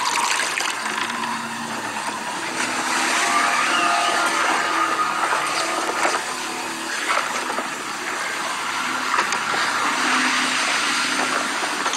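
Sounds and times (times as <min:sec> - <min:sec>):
faint drawn-out tones: 0:01.0 - 0:11.8.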